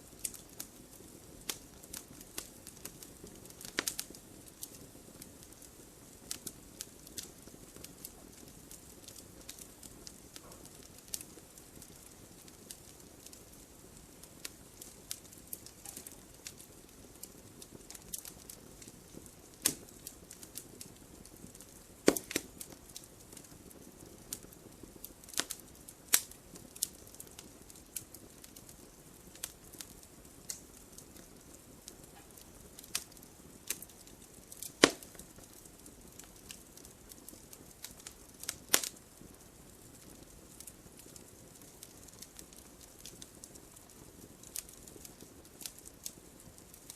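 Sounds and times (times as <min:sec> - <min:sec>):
low steady hiss: 0:00.0 - 0:46.9
wood fire crackling: 0:00.0 - 0:46.9.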